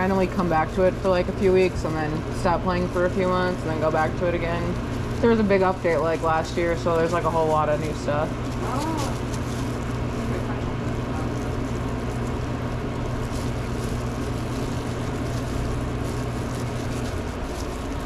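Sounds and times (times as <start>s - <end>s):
machine hum with low drone: 0.0s - 18.0s.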